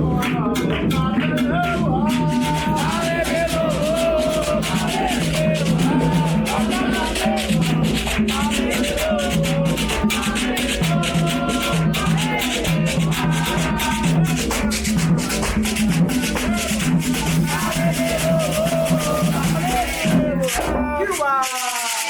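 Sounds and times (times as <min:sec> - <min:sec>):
quick percussion strokes: 0:00.0 - 0:22.0
voices singing a chant: 0:00.0 - 0:22.0.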